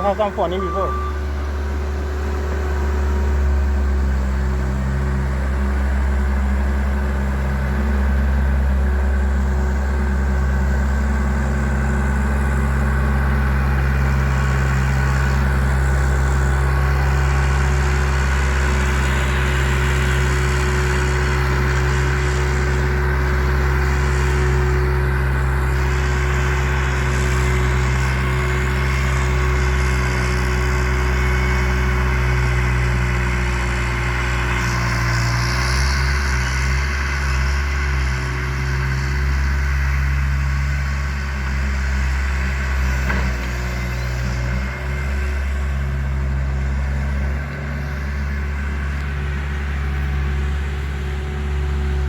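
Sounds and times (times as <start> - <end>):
loader engine running: 0.0 - 52.0.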